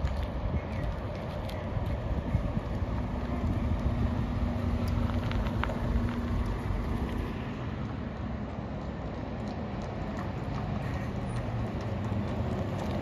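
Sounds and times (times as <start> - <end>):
bus engine hum: 0.0 - 13.0
road rumble: 0.0 - 13.0.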